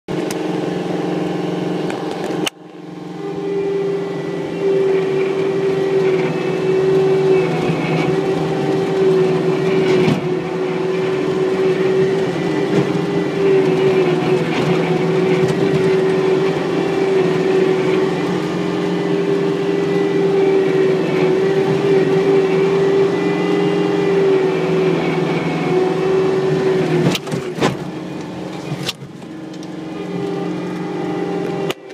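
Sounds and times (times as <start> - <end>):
diesel engine running: 0.1 - 31.9.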